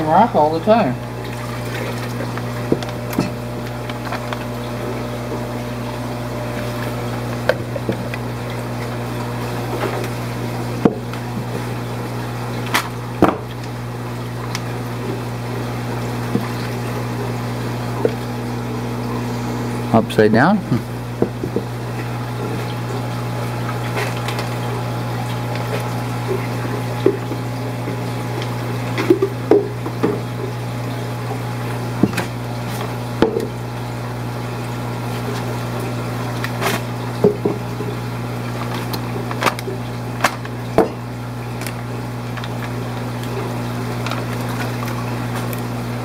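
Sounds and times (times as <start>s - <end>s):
aquarium pumps humming: 0.0s - 46.0s
running water: 0.0s - 46.0s.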